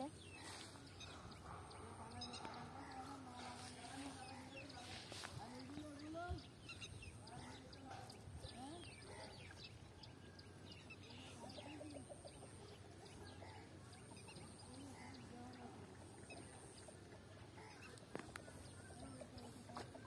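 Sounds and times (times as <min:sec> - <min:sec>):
distant bird calls: 0:00.0 - 0:20.0.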